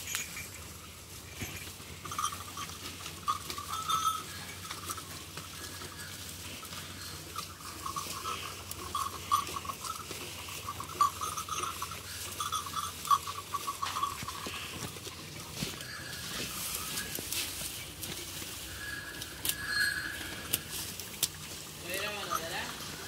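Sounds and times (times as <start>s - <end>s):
cattle rustling straw while eating: 0.0s - 23.0s
high squeaky chattering: 1.5s - 20.8s.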